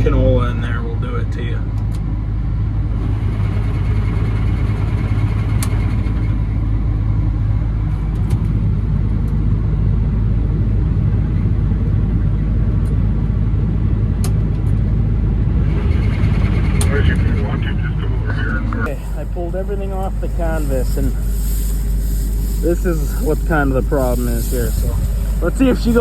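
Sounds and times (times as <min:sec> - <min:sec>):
combine engine drone: 0:00.0 - 0:26.0.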